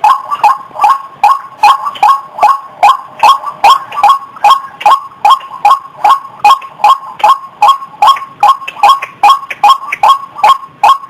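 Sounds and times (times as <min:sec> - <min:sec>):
waterhen calling: 0:00.0 - 0:11.0.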